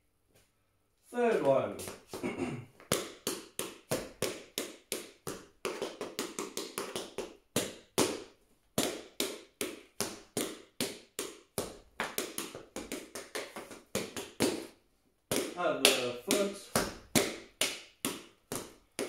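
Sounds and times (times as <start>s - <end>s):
tap shoes on hard floor: 1.3s - 14.7s, 15.3s - 19.0s.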